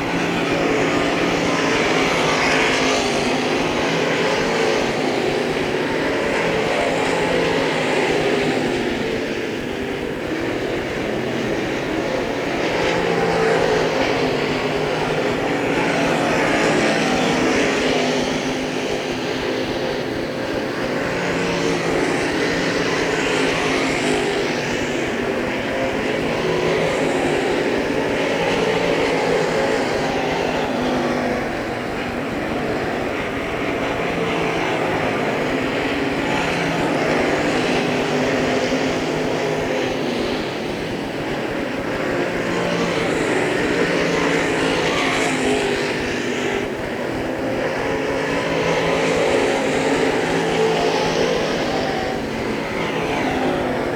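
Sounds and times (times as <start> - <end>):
race car engines passing: 0.0 - 53.9.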